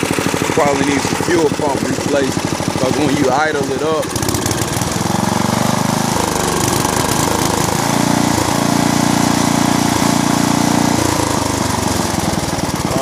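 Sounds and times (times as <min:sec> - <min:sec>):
mower engine running unevenly: 0:00.0 - 0:13.0.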